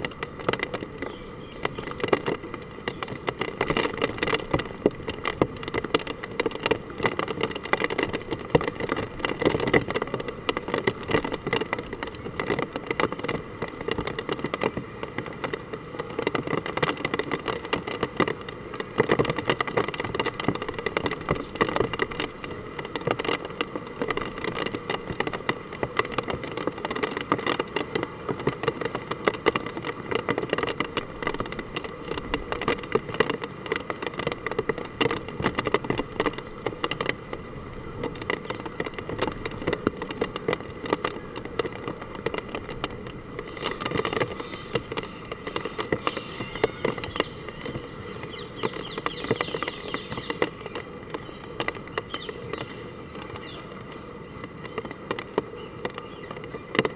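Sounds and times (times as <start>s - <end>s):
hard rain on hard surfaces: 0.0s - 56.7s.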